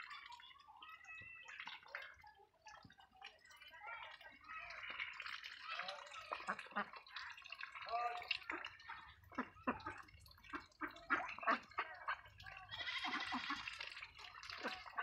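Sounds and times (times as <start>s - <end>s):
ducks slurping wet feed: 0.0s - 15.0s.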